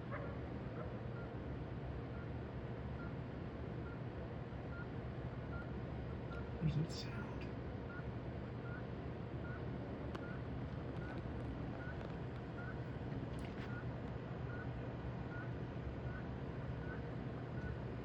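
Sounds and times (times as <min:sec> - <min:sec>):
low droning hum overhead: 0:00.0 - 0:18.0.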